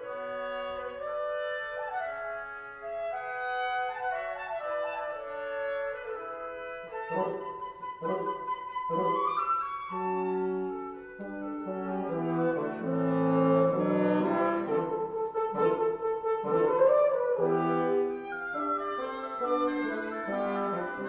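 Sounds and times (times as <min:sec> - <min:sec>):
woodwind quintet playing chords: 0:00.0 - 0:21.0.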